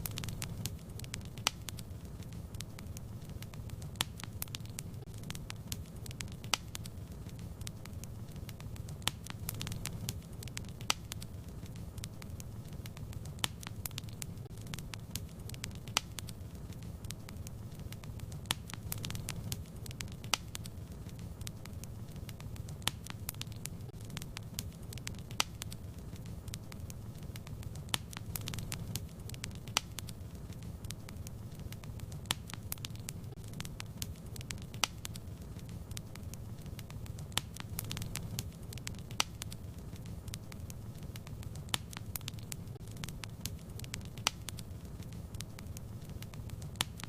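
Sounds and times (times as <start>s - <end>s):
fire crackling and popping: 0.0s - 47.0s
fire flames rumbling: 0.0s - 47.0s.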